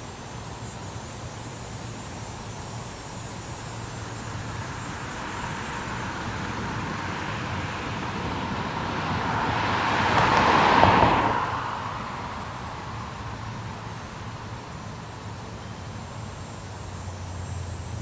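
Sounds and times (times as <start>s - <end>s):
road vehicle passing by: 3.0s - 18.0s.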